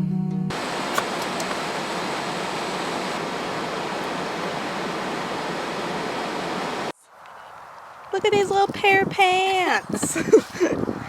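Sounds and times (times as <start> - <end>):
freeway traffic roar: 0.5 - 11.0.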